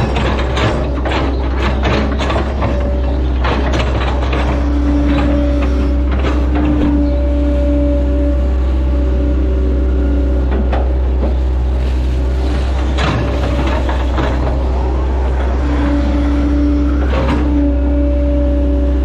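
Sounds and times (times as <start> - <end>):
excavator diesel engine running: 0.0 - 19.0
hydraulic whine: 0.0 - 19.0.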